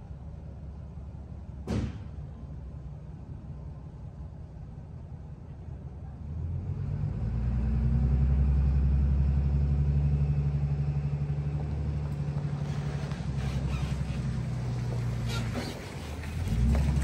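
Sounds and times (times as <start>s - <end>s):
vehicle engine running: 2.2s - 17.0s.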